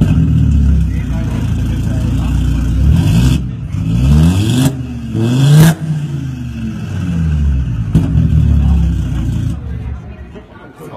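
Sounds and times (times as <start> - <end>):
car engine revving: 0.0 - 10.0
exhaust crack: 0.0 - 10.2.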